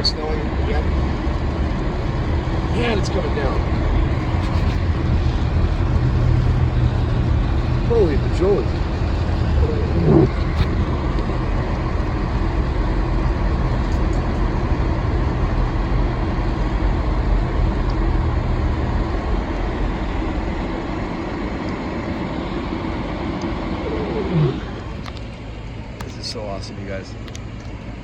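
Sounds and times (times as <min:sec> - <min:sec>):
engine noise in car cabin: 0:00.0 - 0:28.0
tires rolling on snowy road: 0:00.0 - 0:28.0.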